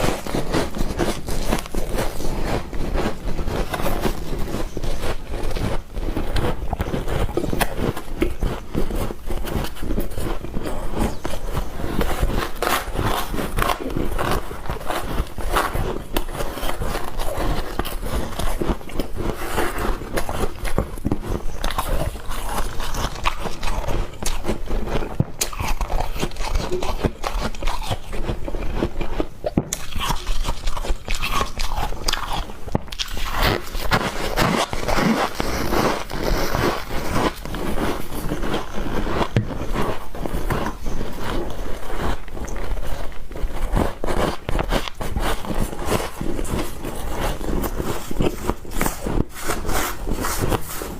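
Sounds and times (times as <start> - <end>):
ice being chewed and crunched: 0.0 - 50.9.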